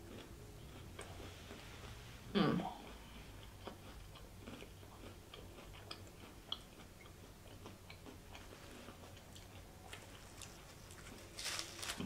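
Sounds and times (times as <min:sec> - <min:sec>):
faint chewing with mouth clicks: 0:00.0 - 0:12.0.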